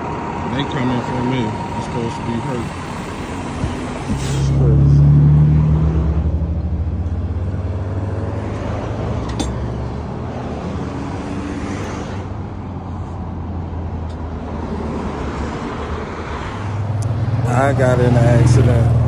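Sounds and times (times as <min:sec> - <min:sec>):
roadside traffic: 0:00.0 - 0:19.0.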